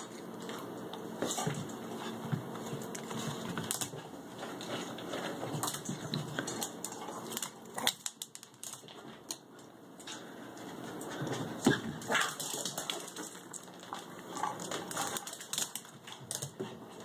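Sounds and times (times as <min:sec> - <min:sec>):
dog claws clicking on tiles: 0:02.6 - 0:11.3, 0:12.0 - 0:17.0.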